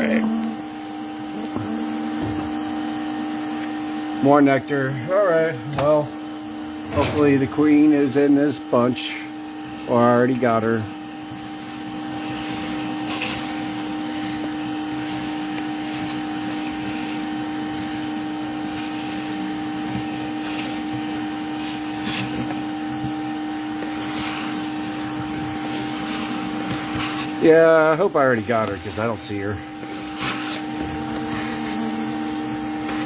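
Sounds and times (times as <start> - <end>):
vacuum motor humming: 0.0 - 33.0.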